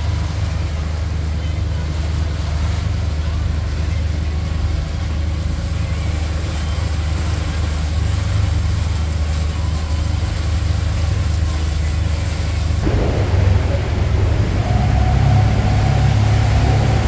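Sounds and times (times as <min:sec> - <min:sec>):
motorboat engine humming: 0:00.0 - 0:17.0.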